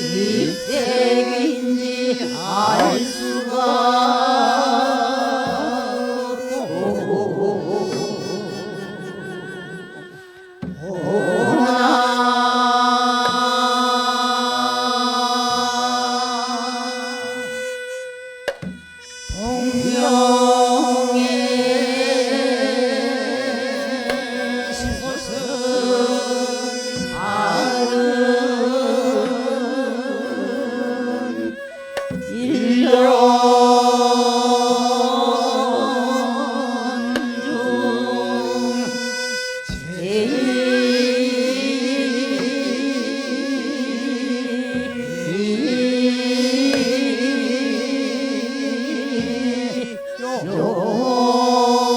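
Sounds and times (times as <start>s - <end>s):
chorus singing long wavering notes: 0.0s - 51.9s.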